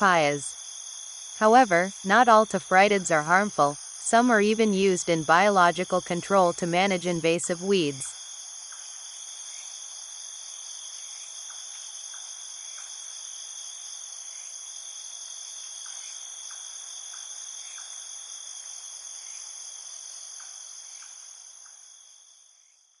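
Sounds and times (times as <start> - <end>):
crickets trilling: 0.0 - 22.8.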